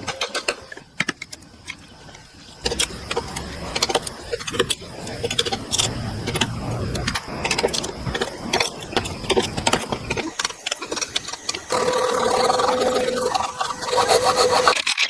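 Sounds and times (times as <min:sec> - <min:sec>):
motor hum: 0:00.0 - 0:14.8
rapid clicking and tapping: 0:00.0 - 0:15.0.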